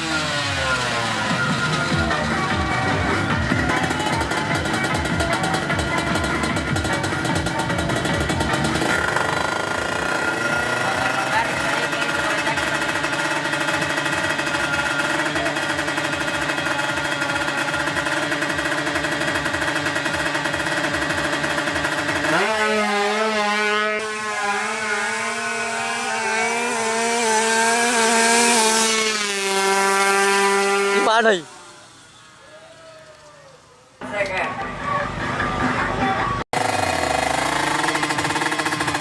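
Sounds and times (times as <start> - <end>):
two-stroke motorcycle engine revving: 0.0 - 32.4, 35.2 - 39.0.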